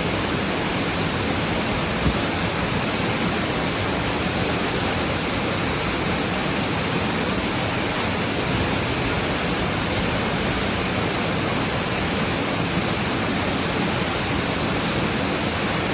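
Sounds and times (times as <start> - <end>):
waterfall roaring: 0.0 - 15.9.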